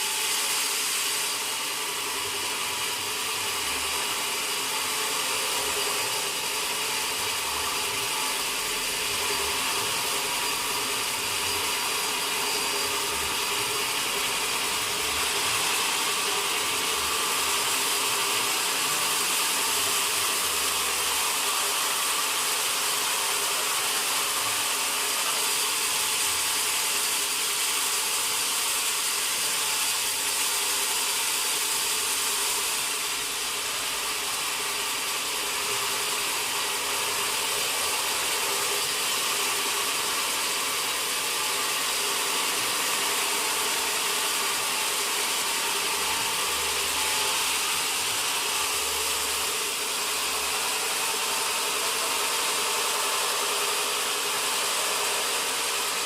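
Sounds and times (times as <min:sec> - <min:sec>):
saw whine: 0:00.0 - 0:56.0
sawmill machinery noise: 0:00.0 - 0:56.0.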